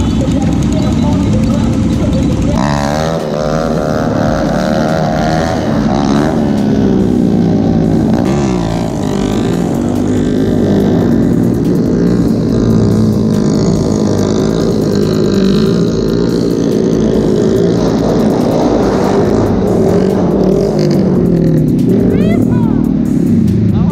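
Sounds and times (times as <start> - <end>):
mini bike engines revving: 0.0 - 23.9.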